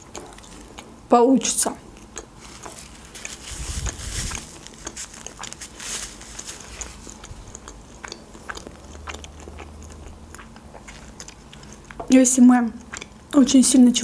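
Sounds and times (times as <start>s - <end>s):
person chewing food: 0.0s - 1.1s, 1.8s - 13.5s.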